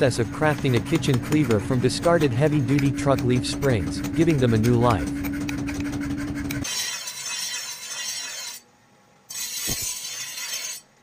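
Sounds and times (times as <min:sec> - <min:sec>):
steel grinding on grinding wheel: 0:00.0 - 0:08.6, 0:09.3 - 0:10.9.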